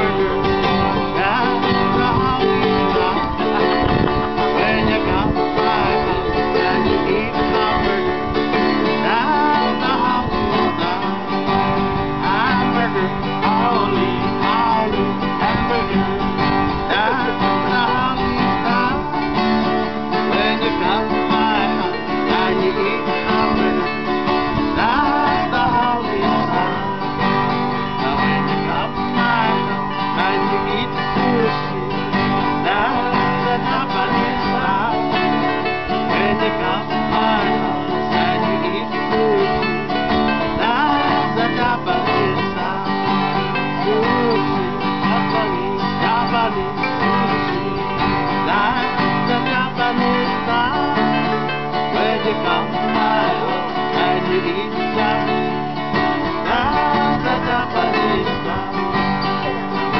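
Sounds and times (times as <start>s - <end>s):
acoustic guitars strumming: 0.0s - 59.9s
man singing: 0.0s - 59.9s.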